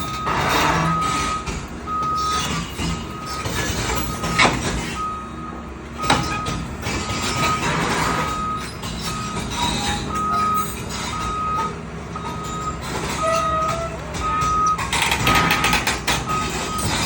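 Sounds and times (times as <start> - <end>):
engine low rumble: 0.0 - 17.0
reversing alarm beeping: 0.0 - 17.0.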